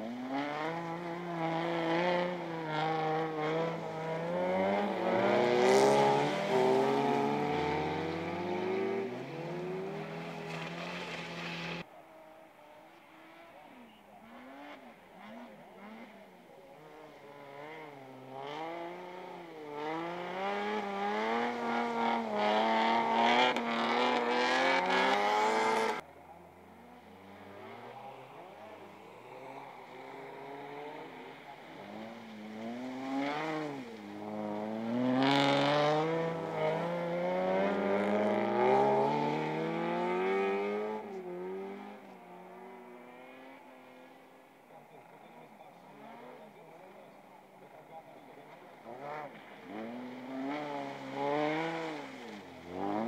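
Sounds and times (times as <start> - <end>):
race car engine revving: 0.0 - 11.9, 12.9 - 53.0.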